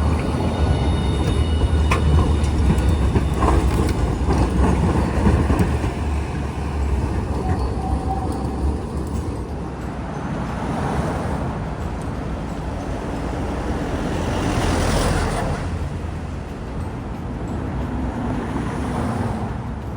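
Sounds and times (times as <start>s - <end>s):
street traffic: 0.0s - 19.9s.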